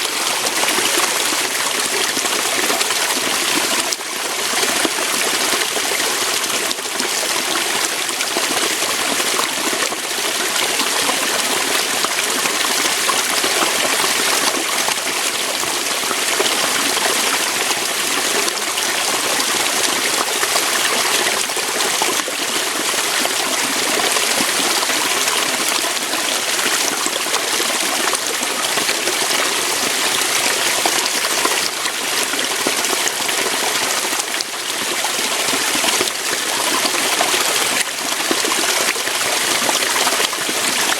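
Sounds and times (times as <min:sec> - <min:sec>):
waterfall splashing over rocks: 0:00.0 - 0:40.9.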